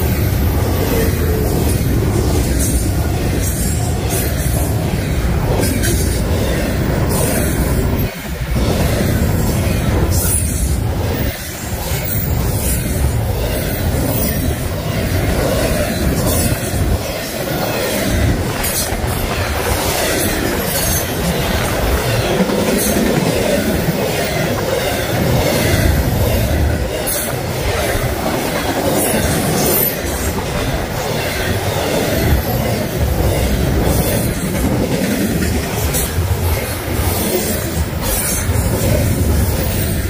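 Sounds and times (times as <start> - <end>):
clickety-clack over rail joints: 0.0 - 40.0
freight train wheels on rails: 0.0 - 40.0.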